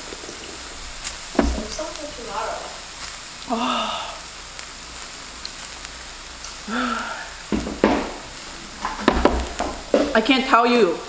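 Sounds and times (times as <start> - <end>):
zucchini sizzling on a griddle: 0.0 - 11.0.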